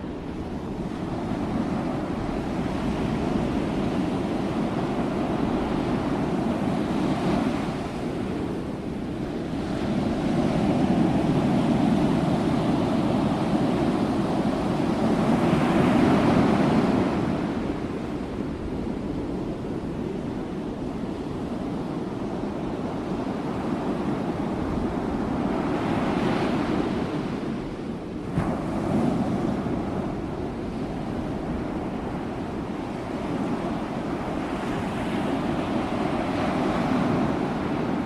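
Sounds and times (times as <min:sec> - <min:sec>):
ocean waves breaking on shore: 0:00.0 - 0:38.0.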